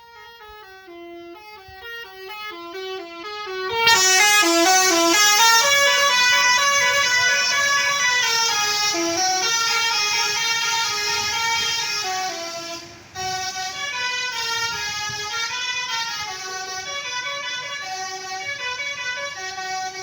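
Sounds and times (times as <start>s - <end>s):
bus horn playing tune: 0.0s - 20.0s.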